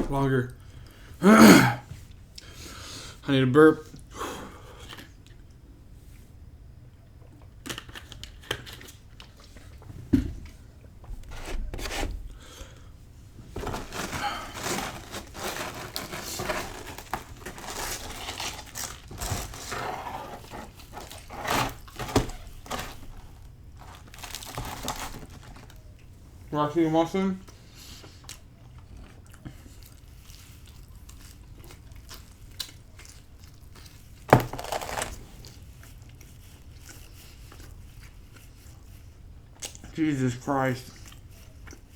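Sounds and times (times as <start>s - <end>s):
pizza being chewed: 3.8s - 26.5s, 27.4s - 41.9s
crackly crunches and rustling: 7.1s - 41.9s.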